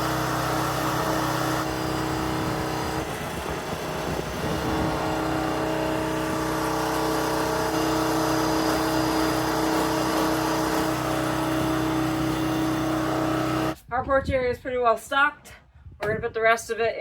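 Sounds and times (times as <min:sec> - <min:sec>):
engine running steadily: 0:00.0 - 0:13.8.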